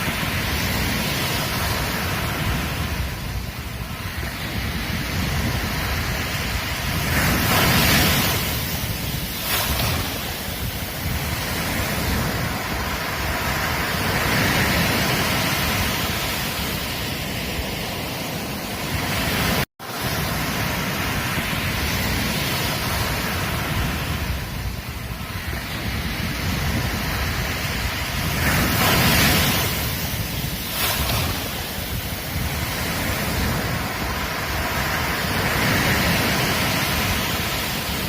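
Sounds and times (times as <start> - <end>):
ocean surf breaking on beach: 0.0 - 38.0
wind rumble on microphone: 0.0 - 38.0.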